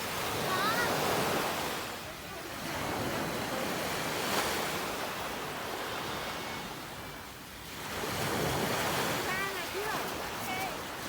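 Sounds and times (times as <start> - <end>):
waves washing onto beach: 0.0 - 11.0.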